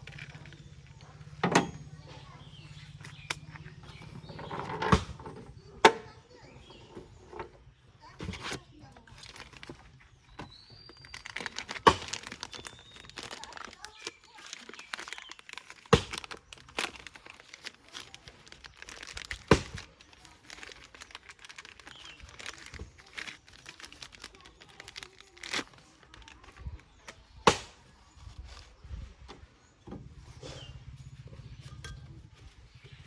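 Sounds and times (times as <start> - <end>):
rustling and crinkling: 0.0 - 33.0.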